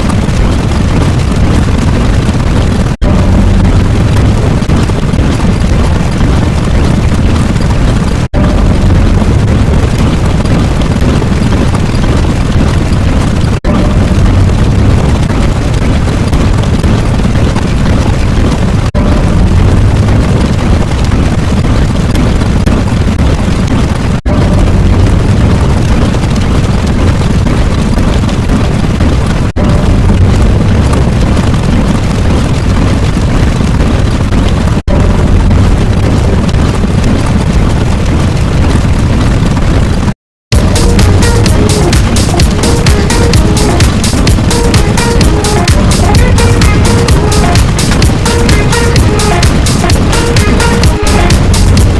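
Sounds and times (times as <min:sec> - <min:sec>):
explosion-like rumbling: 0:00.0 - 0:51.9.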